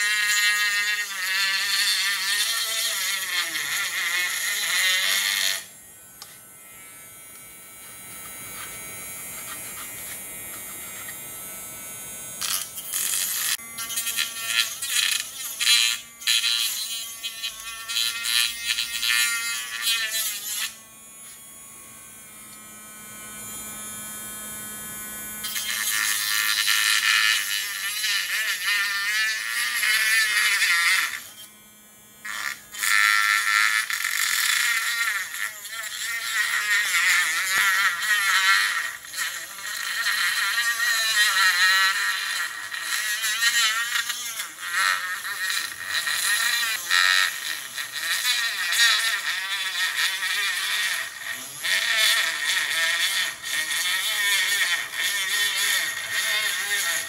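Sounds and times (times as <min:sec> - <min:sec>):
rotary tool cutting plastic: 0:00.0 - 0:06.4, 0:08.2 - 0:11.2, 0:12.3 - 0:21.4, 0:25.4 - 0:31.5, 0:32.2 - 0:57.0.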